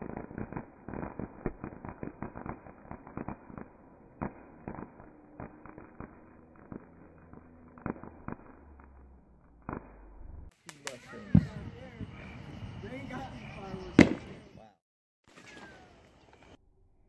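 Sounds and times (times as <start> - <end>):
fireworks crackling: 0.0 - 14.4.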